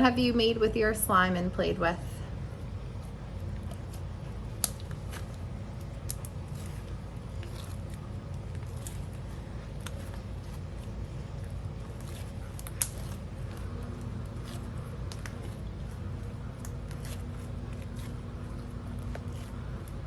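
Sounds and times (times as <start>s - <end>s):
low background rumble: 0.0s - 20.0s
slime squishing: 2.1s - 20.0s
small clicks and crackles: 3.0s - 20.0s.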